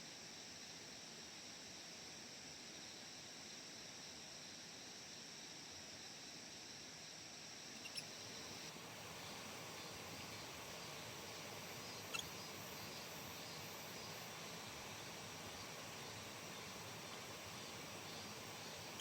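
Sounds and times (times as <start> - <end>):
faint outdoor background noise: 0.0 - 19.0
high insect trill: 0.1 - 19.0.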